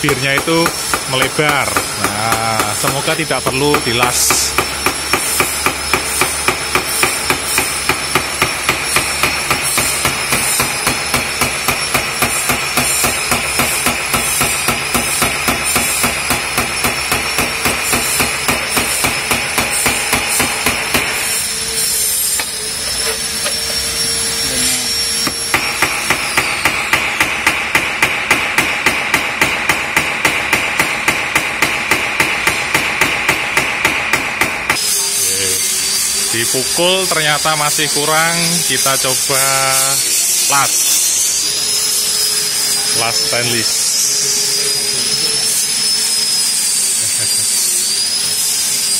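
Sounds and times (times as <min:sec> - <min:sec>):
hammer striking metal: 0:00.0 - 0:41.4.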